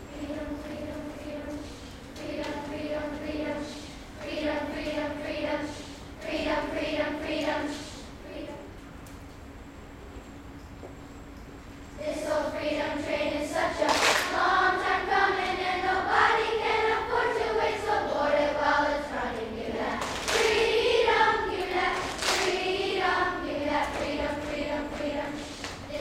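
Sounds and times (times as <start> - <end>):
children's choir singing: 0.0 - 8.7, 12.0 - 26.0.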